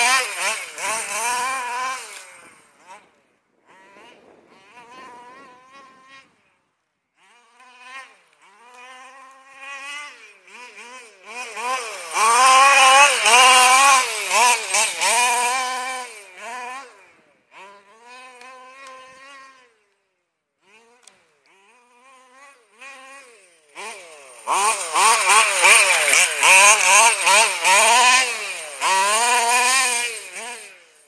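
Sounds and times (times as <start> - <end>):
rc car engine revving: 0.0 - 31.0.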